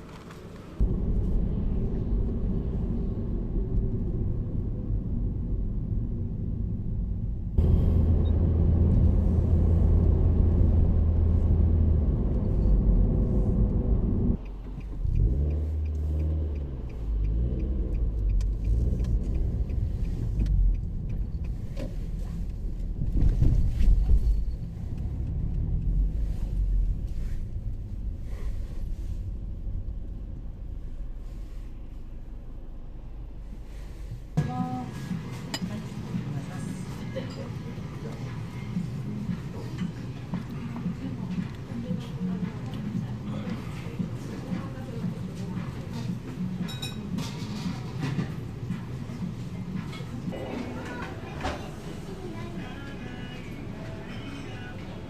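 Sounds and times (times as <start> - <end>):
car engine driving: 0.0 - 55.0
road rumble: 0.0 - 55.0.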